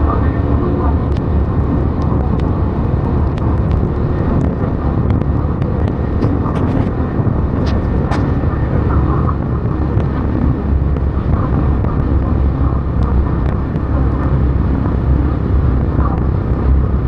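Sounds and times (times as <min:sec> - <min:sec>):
steady rain rushing: 0:00.0 - 0:17.0.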